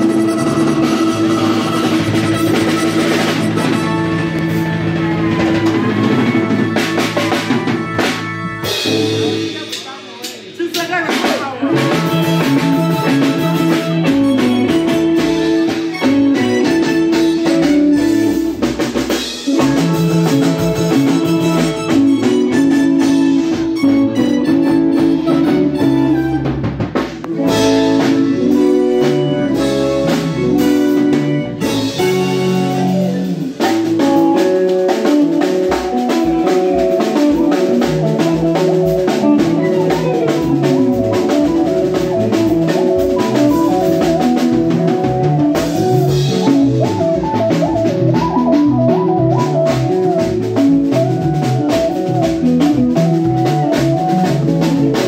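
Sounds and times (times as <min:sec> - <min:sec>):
live band playing dance music: 0:00.0 - 0:55.0.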